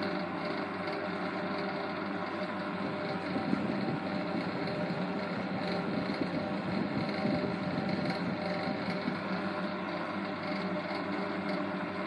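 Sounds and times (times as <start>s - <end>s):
box fan running: 0.0s - 12.0s
fan motor rattle: 0.0s - 12.0s.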